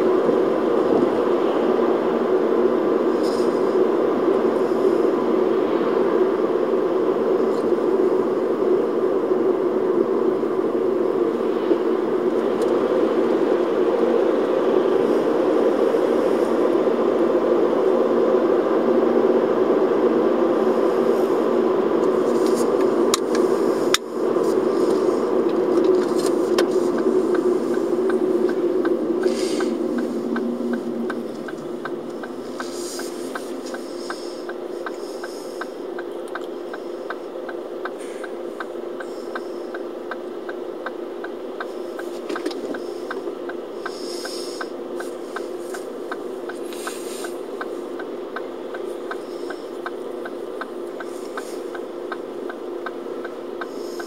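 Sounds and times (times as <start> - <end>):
turn signal ticking: 0.0 - 20.7, 21.5 - 54.0
passing traffic hiss: 0.0 - 41.0, 41.6 - 54.0
car engine and road noise: 0.0 - 54.0
engine idling: 0.0 - 54.0.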